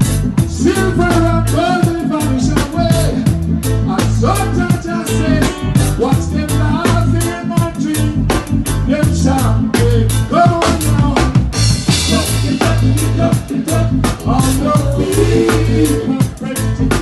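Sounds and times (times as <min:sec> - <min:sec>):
reggae band playing: 0:00.0 - 0:17.0.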